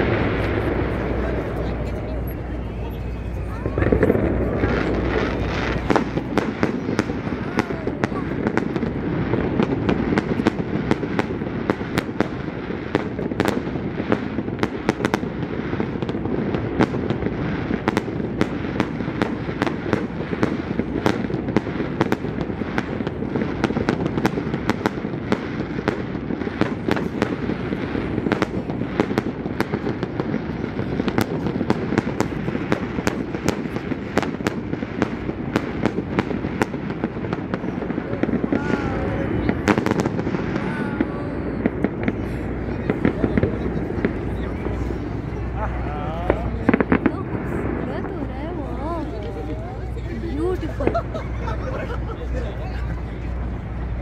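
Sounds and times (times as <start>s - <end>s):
constant low noise: 0.0s - 54.0s
fireworks cracking and banging: 0.0s - 54.0s.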